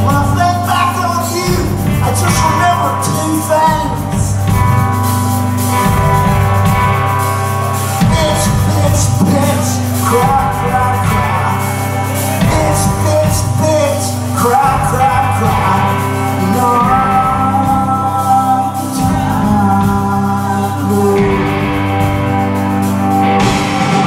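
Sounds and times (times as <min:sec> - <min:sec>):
person singing lead vocal: 0:00.0 - 0:05.2, 0:07.5 - 0:24.0
live rock band playing: 0:00.0 - 0:24.0.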